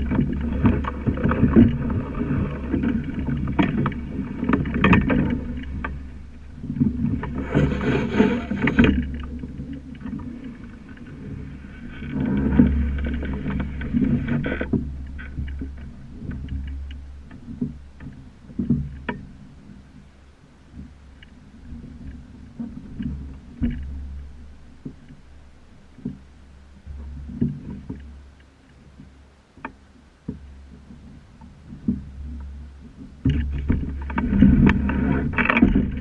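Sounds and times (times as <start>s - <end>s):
small knocks and clicks: 0.0s - 19.4s, 20.7s - 25.3s, 25.9s - 36.0s
water slapping against hull: 0.0s - 20.1s, 20.7s - 36.0s.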